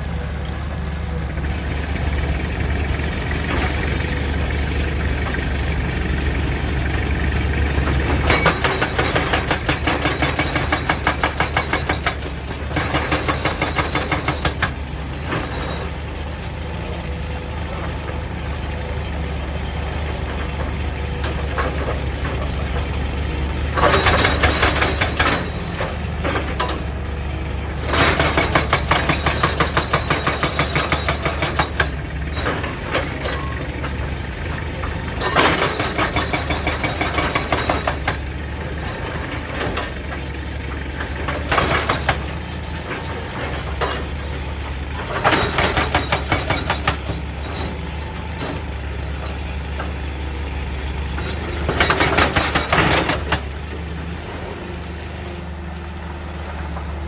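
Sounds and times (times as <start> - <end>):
excavator engine running: 0.0 - 57.0
hydraulic breaker hammering rock: 1.5 - 16.0, 20.1 - 50.2, 51.1 - 53.9.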